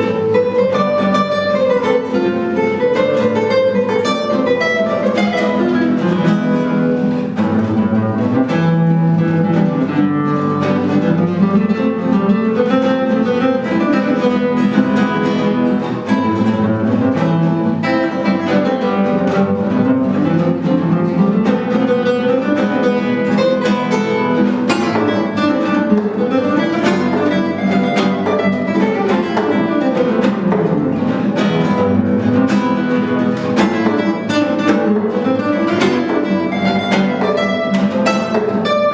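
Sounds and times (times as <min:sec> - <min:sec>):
classical guitars playing flamenco: 0:00.0 - 0:38.9.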